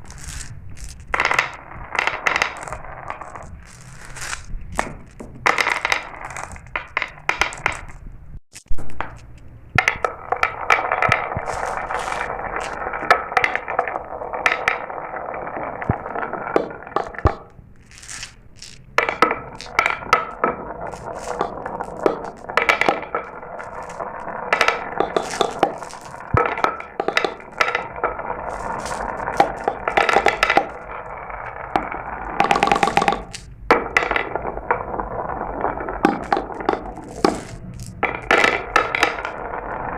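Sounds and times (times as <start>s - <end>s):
marbles clicking together: 0.0s - 8.0s, 8.7s - 39.9s
marbles rolling on track: 0.0s - 8.0s, 9.0s - 39.9s.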